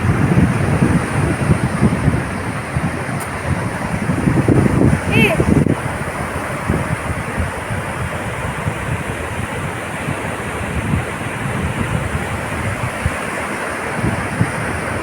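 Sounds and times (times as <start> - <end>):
surf on a beach: 0.0 - 15.0
wind buffeting microphone: 0.0 - 15.0.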